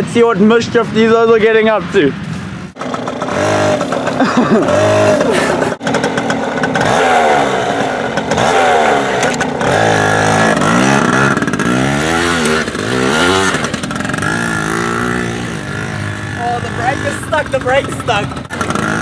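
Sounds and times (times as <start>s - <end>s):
dirt bike engine revving: 2.2s - 19.0s
rear wheel spinning in dirt: 2.8s - 19.0s.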